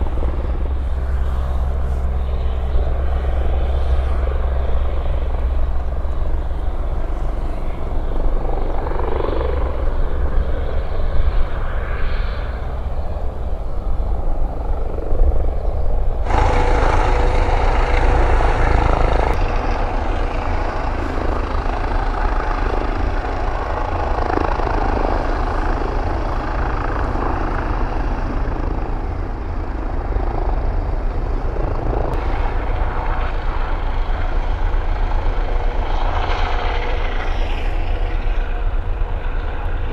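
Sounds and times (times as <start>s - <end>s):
helicopter engine and rotor throb: 0.0s - 39.9s
steady whine: 0.0s - 39.9s.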